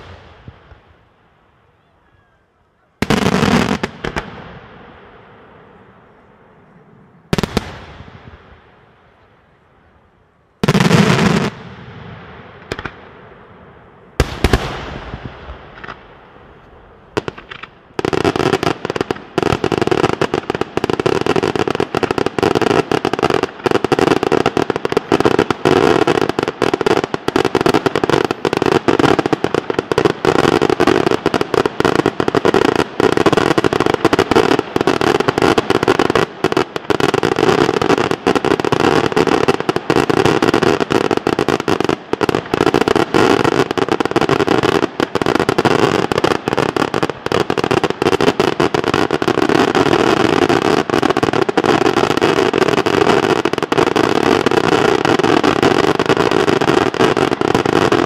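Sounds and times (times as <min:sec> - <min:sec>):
fireworks cracking and banging: 0:00.0 - 0:01.0, 0:01.6 - 0:09.2, 0:10.6 - 0:58.0.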